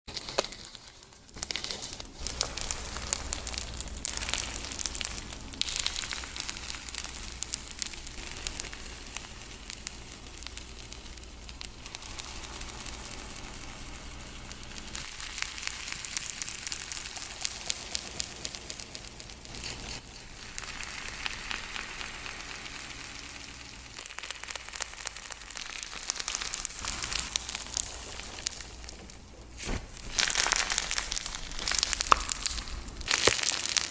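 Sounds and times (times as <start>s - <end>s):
slime crackling and popping: 0.1s - 33.9s.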